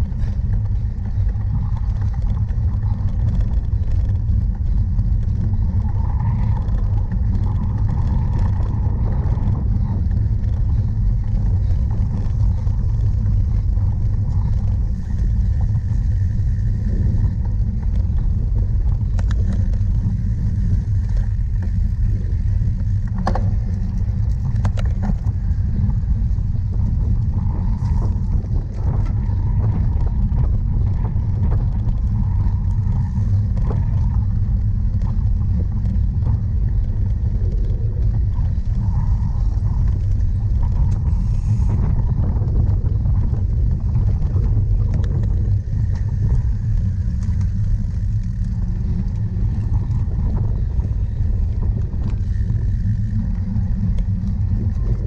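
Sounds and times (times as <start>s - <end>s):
bike clicks and rattles: 0.0s - 55.0s
wind and ground rumble: 0.0s - 55.0s.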